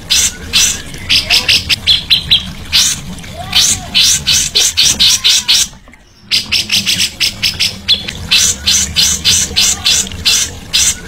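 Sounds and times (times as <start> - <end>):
songbird chattering: 0.1 - 3.0, 3.6 - 11.0.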